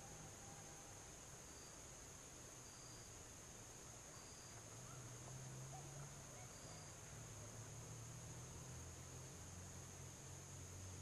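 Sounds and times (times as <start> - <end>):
faint insect chirps: 0.0 - 11.0
insects droning: 0.0 - 11.0.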